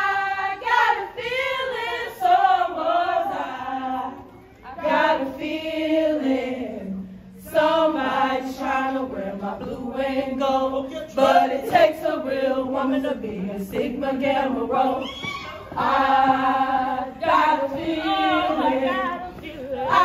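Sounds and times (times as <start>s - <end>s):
women chanting in unison: 0.0s - 20.0s.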